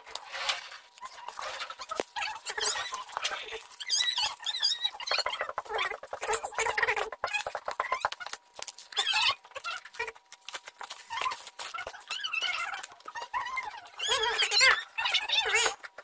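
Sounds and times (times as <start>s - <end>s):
bubble wrap crinkling: 0.0s - 16.0s
plastic squeaking on cardboard: 0.0s - 16.0s.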